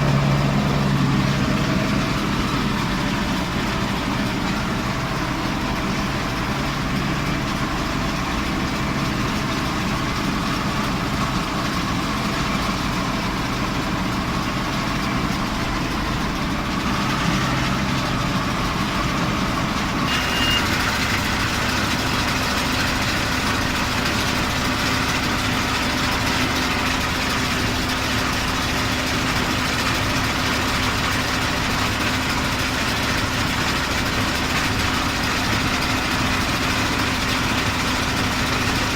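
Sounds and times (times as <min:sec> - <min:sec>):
round baler working: 0:00.0 - 0:38.9
tractor diesel engine running: 0:00.0 - 0:38.9.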